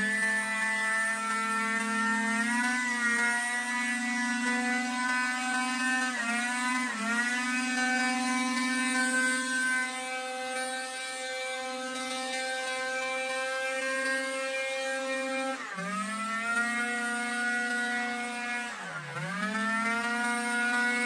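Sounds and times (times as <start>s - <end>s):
small petrol engine running: 0.0s - 21.0s.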